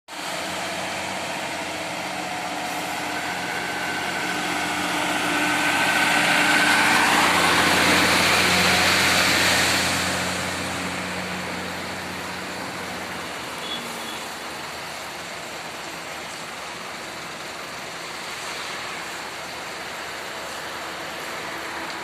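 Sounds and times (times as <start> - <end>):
heavy rain hissing: 0.2 - 22.0.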